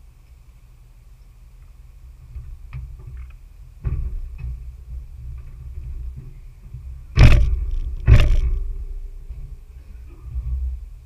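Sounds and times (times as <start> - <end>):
vehicle rumbling over rough trail: 0.0 - 11.0
vehicle knocks and clunks: 2.1 - 11.0.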